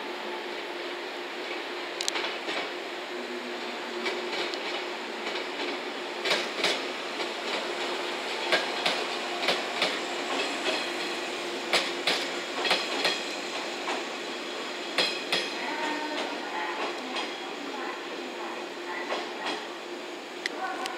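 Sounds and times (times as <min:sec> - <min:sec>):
steady train hum: 0:00.0 - 0:20.9.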